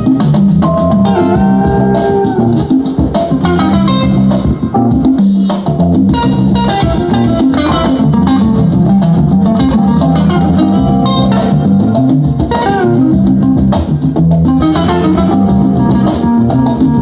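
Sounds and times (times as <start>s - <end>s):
guitar band music: 0.0s - 17.0s.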